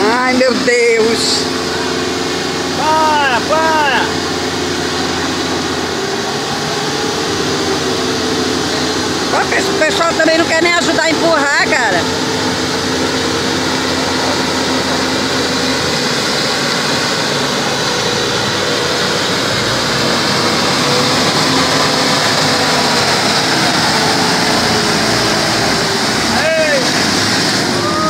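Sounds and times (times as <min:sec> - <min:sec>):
continuous rushing noise: 0:00.0 - 0:28.0
engine hum under load: 0:00.0 - 0:28.0.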